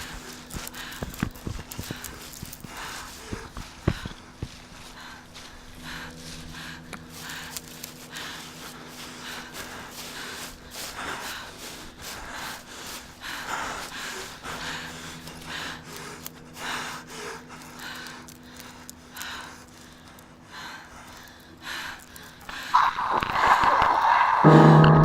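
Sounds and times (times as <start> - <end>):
low steady hum: 0.0 - 25.0
person breathing heavily: 0.0 - 25.0.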